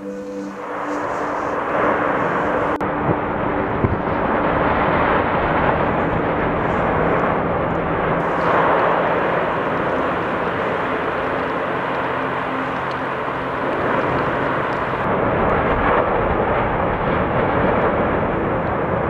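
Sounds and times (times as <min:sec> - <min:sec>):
volcanic eruption roaring: 0:00.0 - 0:19.0.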